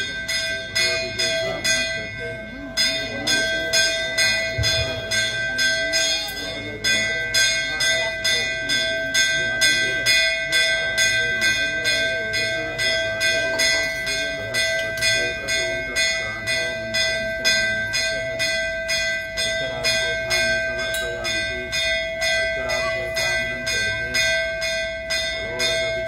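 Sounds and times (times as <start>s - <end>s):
faint voices: 0.0s - 26.0s
temple bell ringing: 0.0s - 26.0s.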